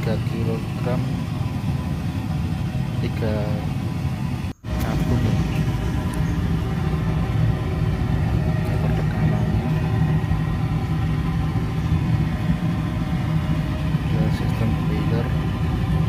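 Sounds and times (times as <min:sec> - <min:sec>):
steam boiler burner rumble: 0:00.0 - 0:16.0.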